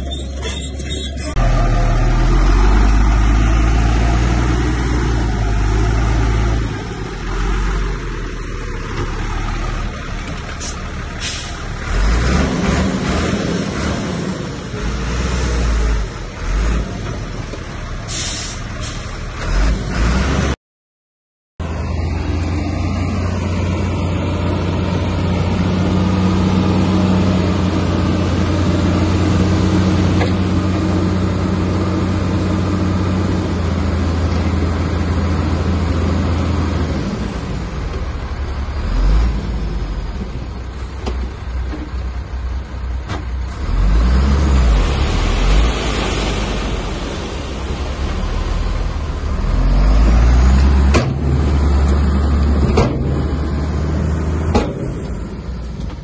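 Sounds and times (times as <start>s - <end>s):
bulldozer diesel engine rumbling: 0.0s - 20.6s, 21.6s - 56.0s.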